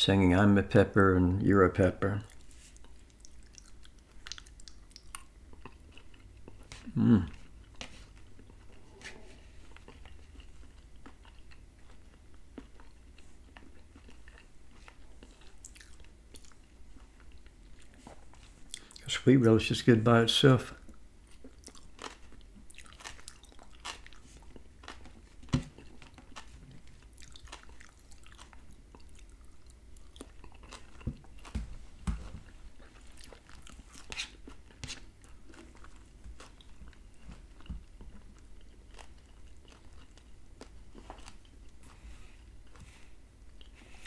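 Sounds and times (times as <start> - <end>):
man chewing food: 2.1 - 19.1, 20.7 - 44.0.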